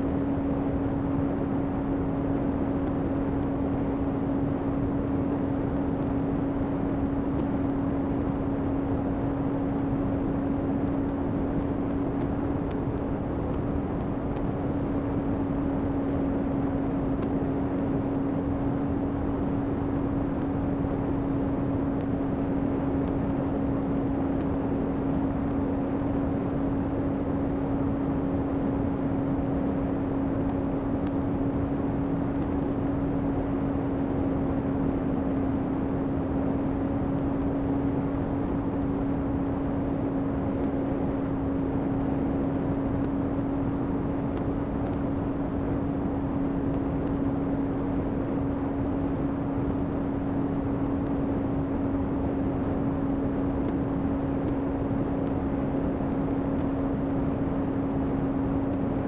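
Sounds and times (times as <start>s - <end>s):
rush of air noise: 0.0s - 59.0s.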